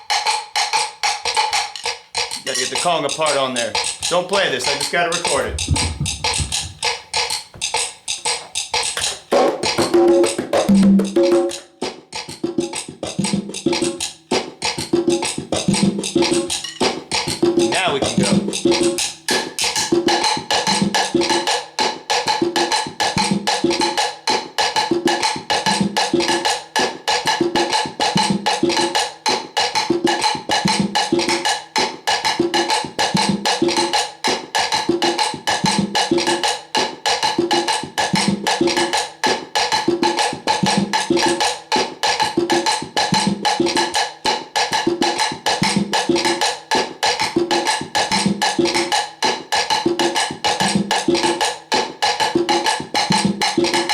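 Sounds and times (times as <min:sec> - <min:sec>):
conga drums: 0:00.0 - 0:53.9.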